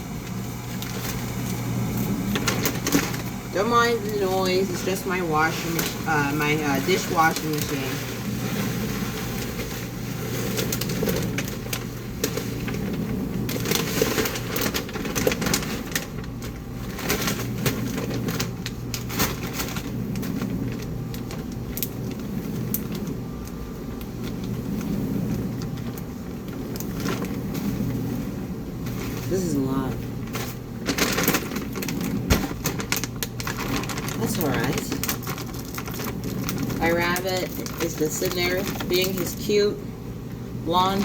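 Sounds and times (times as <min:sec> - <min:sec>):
dishwasher humming: 0:00.0 - 0:41.0.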